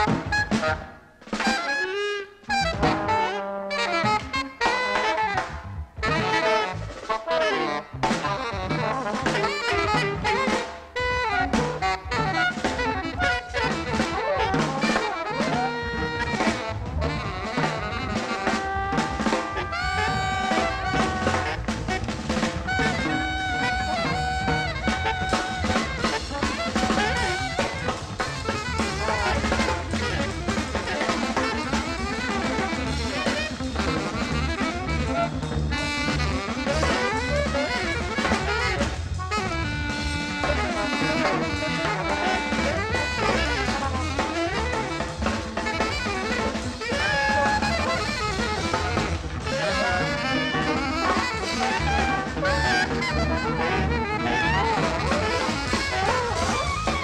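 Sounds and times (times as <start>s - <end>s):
jazz music: 0.0s - 57.0s.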